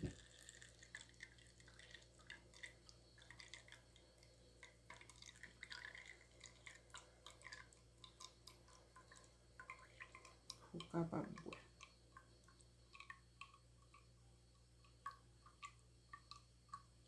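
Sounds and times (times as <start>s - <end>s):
faint kitchen clicks and taps: 0.0s - 17.0s.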